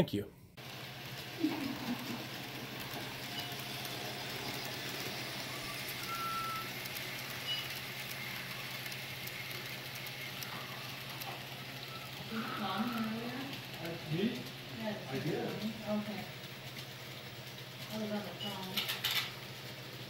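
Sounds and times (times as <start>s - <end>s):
model train running hum: 0.6s - 20.0s
room noise: 0.6s - 20.0s.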